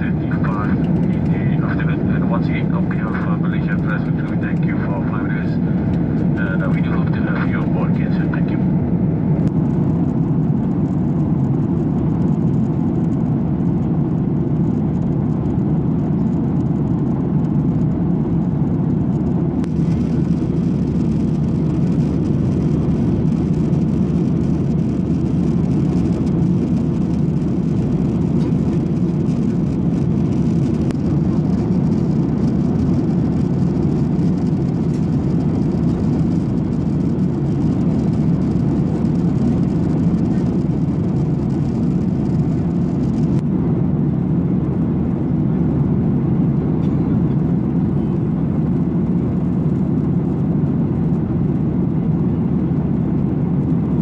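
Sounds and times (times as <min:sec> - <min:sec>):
airflow rushing in aircraft cabin: 0:00.0 - 0:54.0
jet engines droning: 0:00.0 - 0:54.0.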